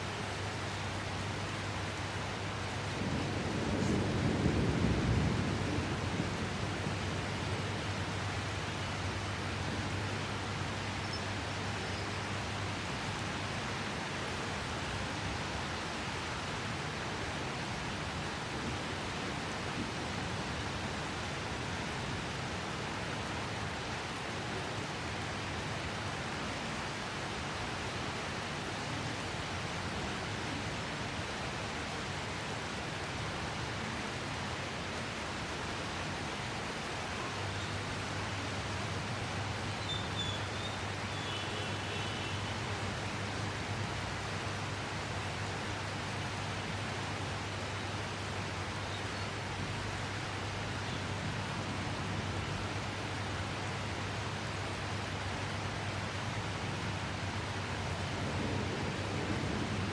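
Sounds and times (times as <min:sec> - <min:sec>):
heavy rain falling: 0:00.0 - 0:54.6, 0:56.2 - 0:59.9.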